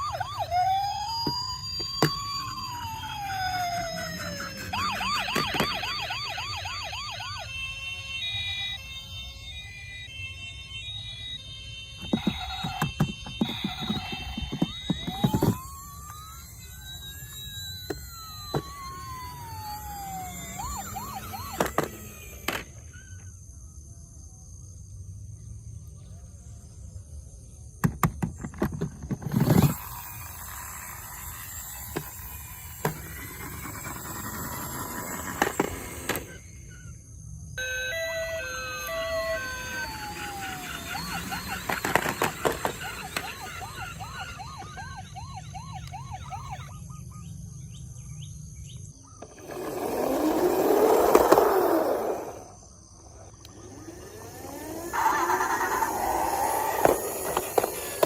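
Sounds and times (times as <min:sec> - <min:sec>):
toy siren wailing and yelping: 0:00.0 - 0:23.4, 0:28.5 - 0:47.6, 0:49.0 - 0:58.0.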